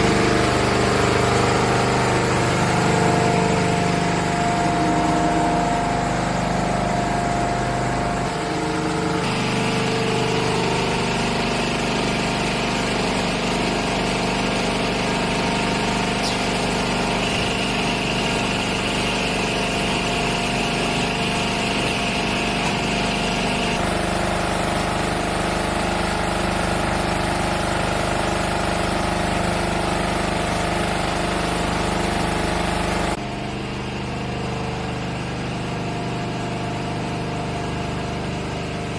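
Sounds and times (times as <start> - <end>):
machine humming with steady tones: 0.0 - 38.9.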